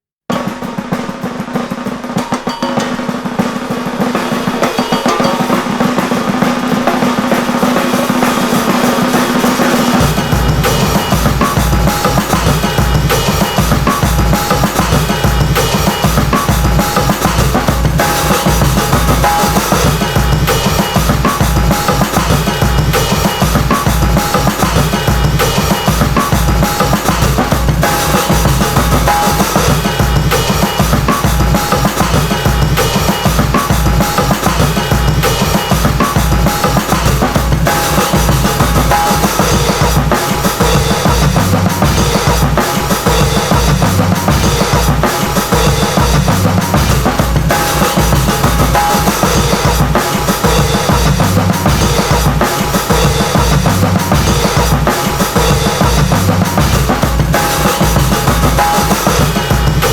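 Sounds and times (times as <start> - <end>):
hip-hop beat with heavy bass: 4.0 - 59.9.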